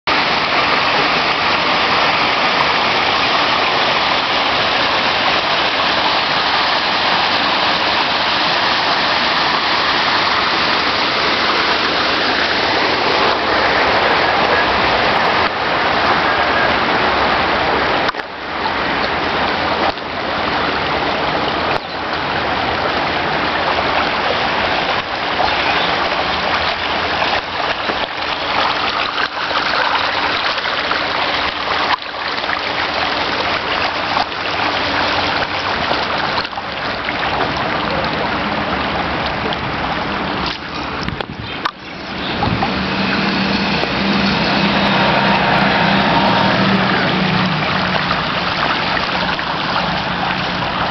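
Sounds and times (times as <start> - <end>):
water rushing along gutter: 0.0 - 50.9
water gushing from burst main: 0.1 - 50.9.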